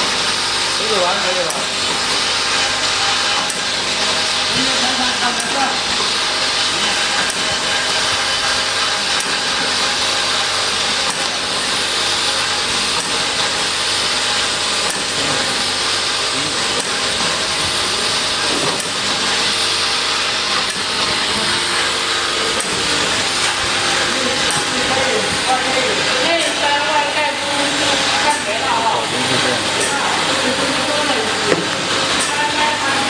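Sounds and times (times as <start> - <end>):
machine motors whirring: 0.0 - 33.0.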